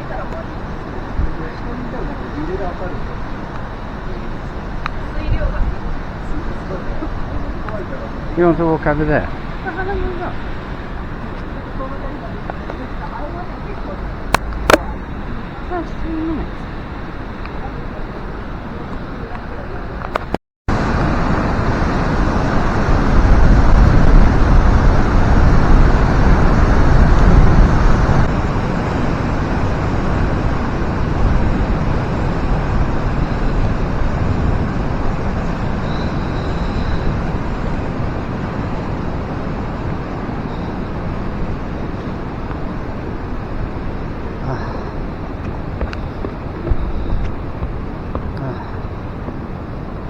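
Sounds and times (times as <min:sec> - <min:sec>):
waterfall roaring: 0:00.0 - 0:50.0
wind buffeting microphone: 0:00.0 - 0:50.0.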